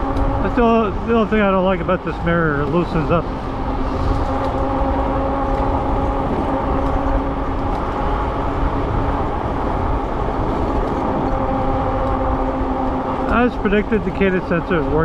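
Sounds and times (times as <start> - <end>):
electric motor whine: 0.0 - 15.0
wind rushing over microphone: 0.0 - 15.0.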